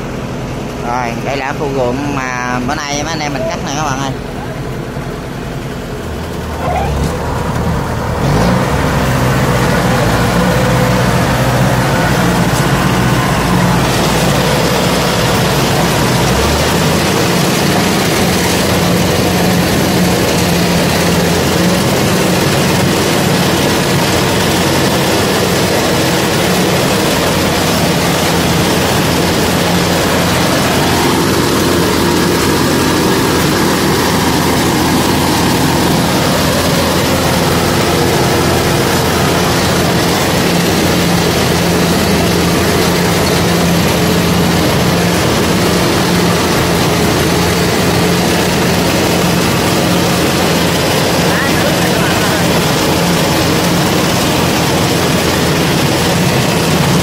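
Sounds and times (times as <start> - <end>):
combine harvester engine drone: 0.0 - 57.0.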